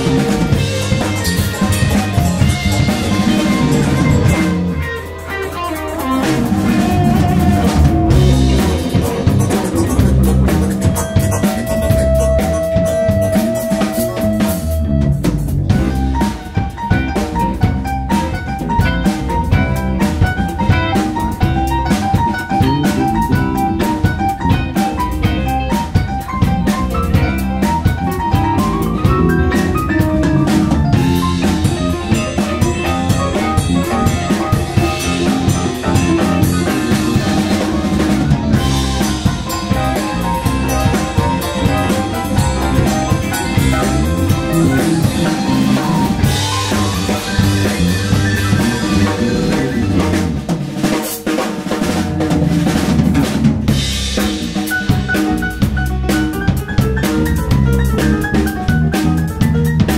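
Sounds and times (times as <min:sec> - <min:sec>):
drum kit busy beat: 0:00.0 - 0:59.9
live band playing: 0:00.0 - 0:59.9.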